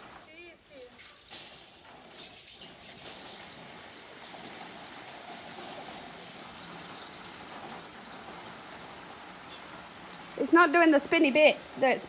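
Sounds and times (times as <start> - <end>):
sprinkler spraying water: 0.0 - 12.0.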